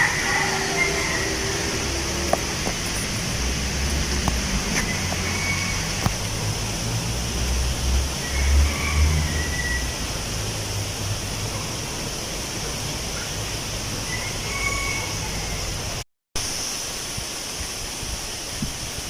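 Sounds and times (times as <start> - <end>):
wind rustling tree leaves: 0.0 - 19.0.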